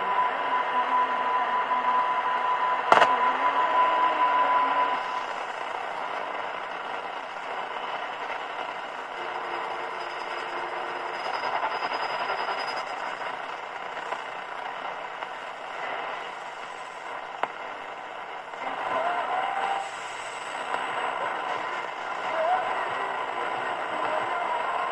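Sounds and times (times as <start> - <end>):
radio static hiss: 2.8 - 24.9.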